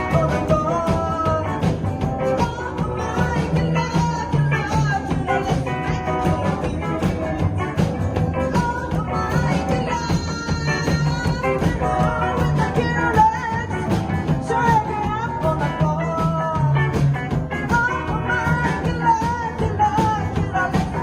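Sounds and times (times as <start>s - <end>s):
person singing: 0.0s - 21.0s
rockabilly band playing: 0.0s - 21.0s.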